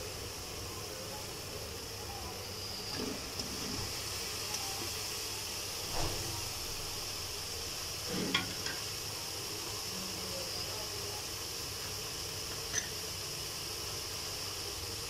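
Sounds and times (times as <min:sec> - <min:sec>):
paste sizzling in a pan: 0:00.0 - 0:15.0.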